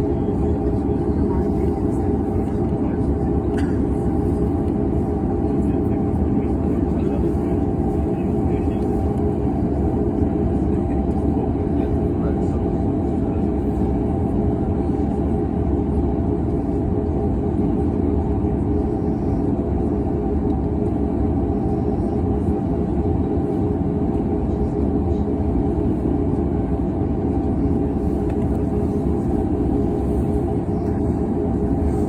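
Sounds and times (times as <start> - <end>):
constant hum: 0.0 - 32.0
low mechanical rumble: 0.0 - 32.0.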